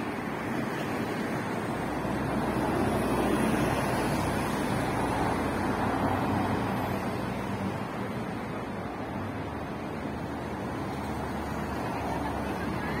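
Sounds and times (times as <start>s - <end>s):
bus passing close by: 0.0s - 13.0s
highway traffic rushing: 0.0s - 13.0s.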